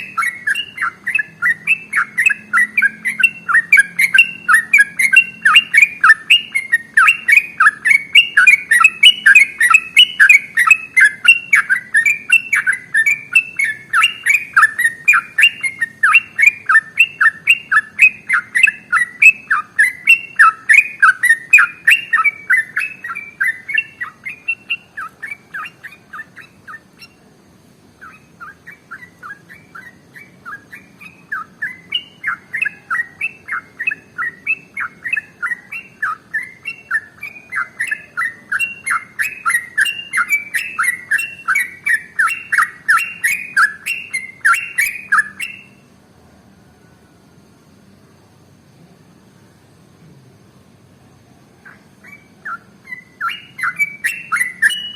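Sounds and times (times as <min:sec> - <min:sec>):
bird chattering song: 0:00.0 - 0:45.9, 0:51.2 - 0:54.9.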